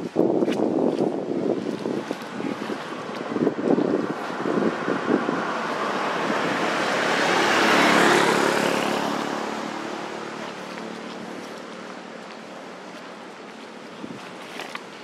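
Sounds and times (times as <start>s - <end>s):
road vehicle passing by: 2.2s - 15.0s.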